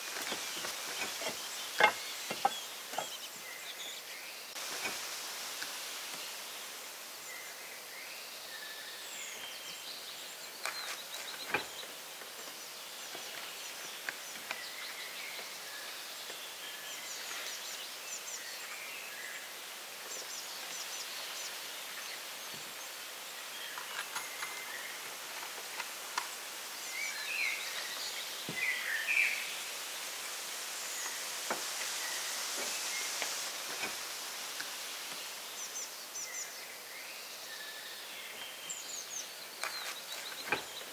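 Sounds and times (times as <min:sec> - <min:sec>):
background hiss: 0:00.0 - 0:40.9
small birds chirping: 0:00.0 - 0:40.9.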